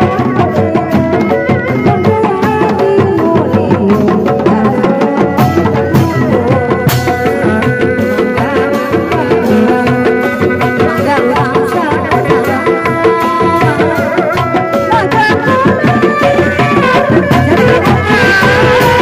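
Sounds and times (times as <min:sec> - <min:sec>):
fast hand drums: 0:00.0 - 0:19.0
wavering melody line: 0:00.0 - 0:19.0.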